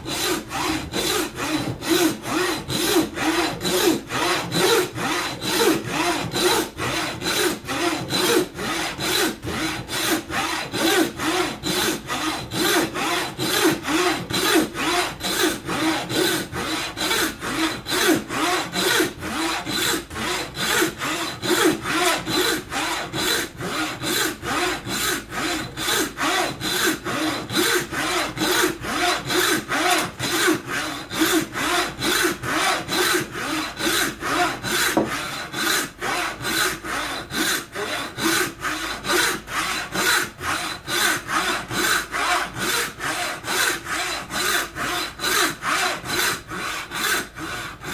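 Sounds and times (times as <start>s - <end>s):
hand saw cutting wood: 0.0s - 47.9s.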